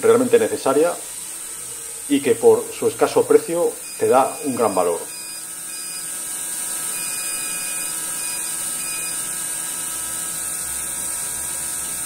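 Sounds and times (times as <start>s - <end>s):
suction fan hissing: 0.0s - 12.0s.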